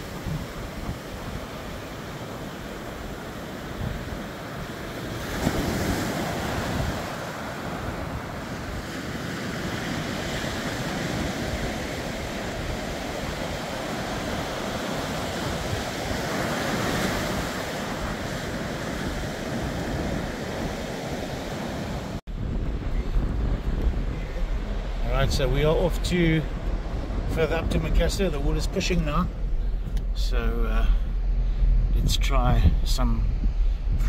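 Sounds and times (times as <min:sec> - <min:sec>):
ocean surf breaking: 0:00.0 - 0:34.0
wind on microphone: 0:00.0 - 0:34.0.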